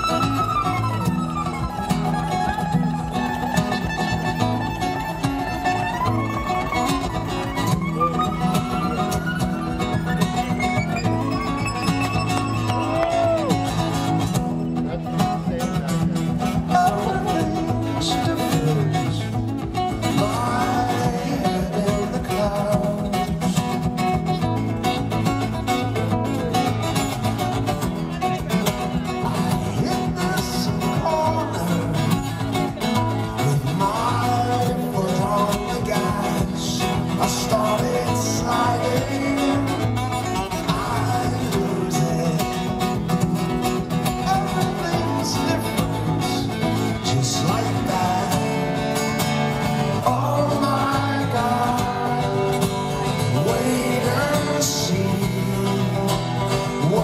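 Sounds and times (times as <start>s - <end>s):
acoustic guitars playing: 0.0s - 57.0s.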